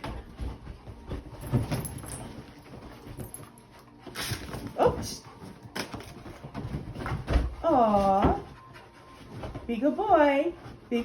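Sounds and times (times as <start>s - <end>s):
dogs scuffling and bumping: 0.0s - 11.0s.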